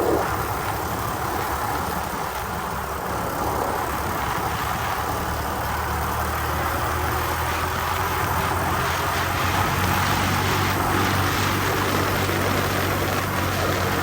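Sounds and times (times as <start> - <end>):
motorcycle engine running: 0.0 - 14.0
road and wind noise: 0.0 - 14.0.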